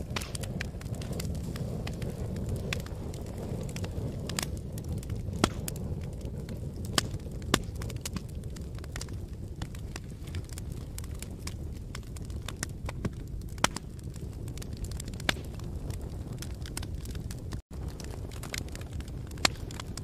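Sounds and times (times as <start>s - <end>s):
fire popping: 0.0s - 20.0s
wood fire crackling: 0.0s - 20.0s.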